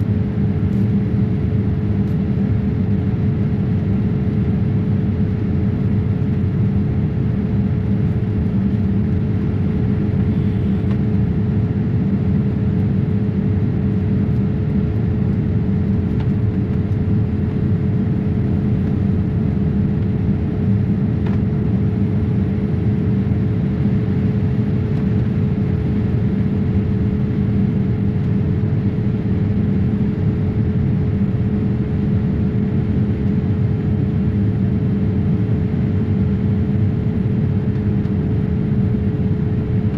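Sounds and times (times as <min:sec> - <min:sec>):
aircraft cabin engine drone: 0:00.0 - 0:39.9
constant hum: 0:00.0 - 0:39.9.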